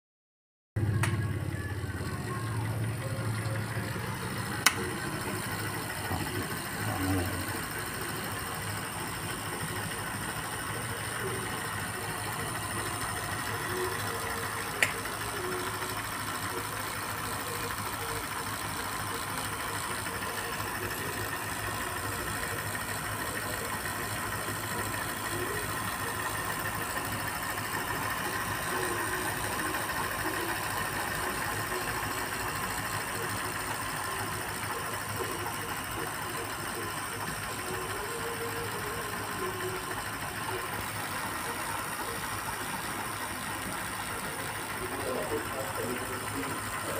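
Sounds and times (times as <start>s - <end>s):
film projector mechanical hum: 0.8s - 46.9s.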